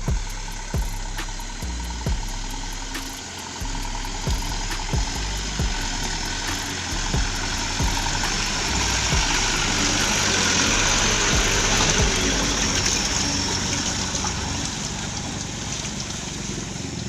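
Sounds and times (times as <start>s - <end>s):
truck diesel engine under load: 0.0s - 17.0s
tyres hissing in mud: 2.9s - 17.0s.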